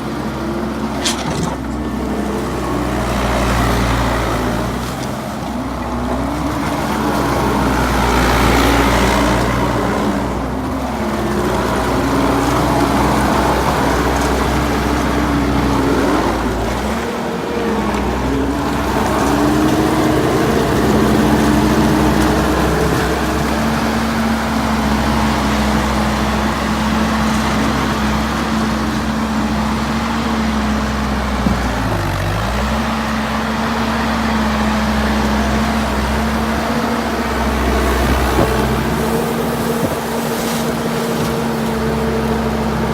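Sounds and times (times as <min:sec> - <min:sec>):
skid steer engine at high revs: 0:00.0 - 0:42.9.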